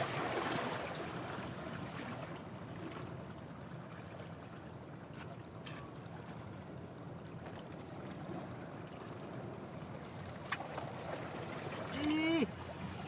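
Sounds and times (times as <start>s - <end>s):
sea water washing along shore: 0.0s - 13.0s
wind: 0.0s - 13.0s.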